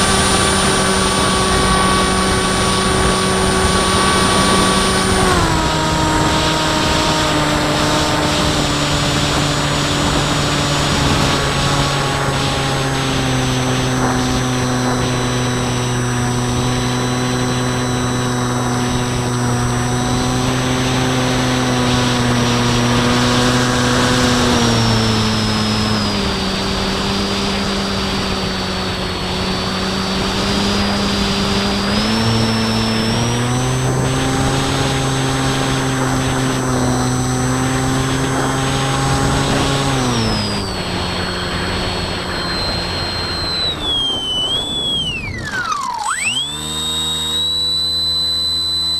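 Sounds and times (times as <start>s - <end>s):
wind rush: 0.0s - 45.8s
model plane motor whine: 0.0s - 48.9s.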